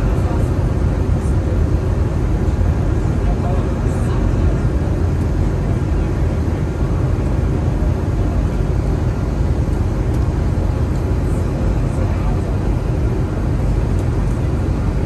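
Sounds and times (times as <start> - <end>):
jet engine and airflow rumble: 0.0 - 15.0.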